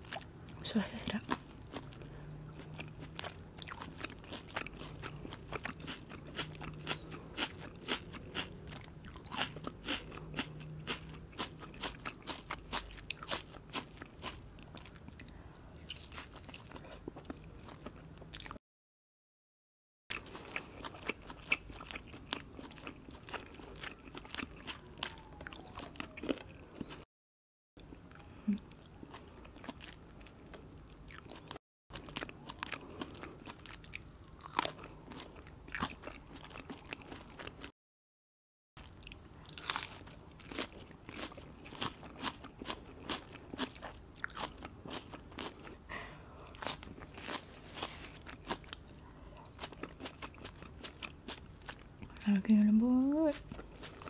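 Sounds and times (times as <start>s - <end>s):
chewing and biting meat: 1.2s - 18.6s, 20.1s - 27.0s, 27.8s - 37.7s, 38.8s - 52.2s, 53.3s - 54.0s.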